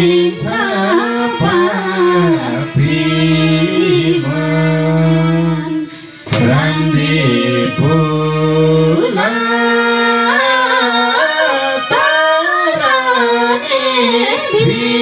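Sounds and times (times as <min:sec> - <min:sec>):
instrumental accompaniment: 0:00.0 - 0:15.0
person singing long wavering notes: 0:00.0 - 0:15.0.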